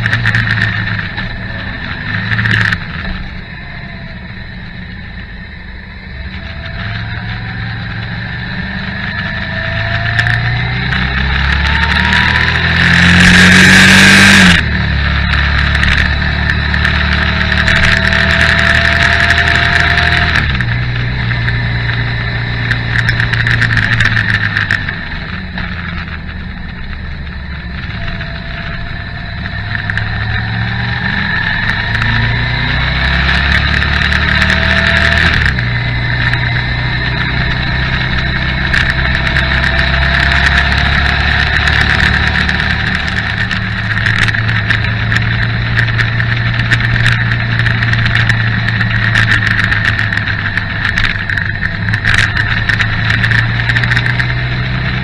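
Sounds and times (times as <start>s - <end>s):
motorcycle engine running: 0.0s - 55.0s
passing motorcycle rush: 0.0s - 55.0s
wind rush on microphone: 0.0s - 55.0s.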